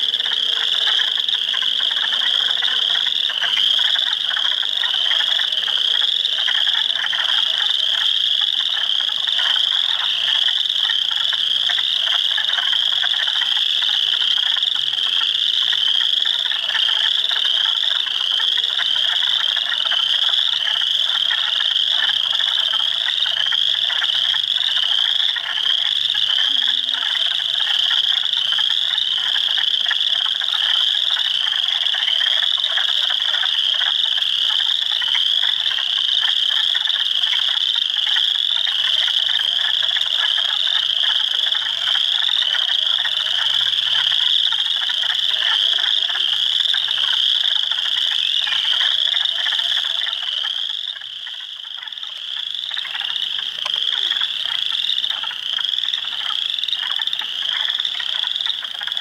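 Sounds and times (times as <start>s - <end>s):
frogs clucking and trilling: 0.0s - 59.0s.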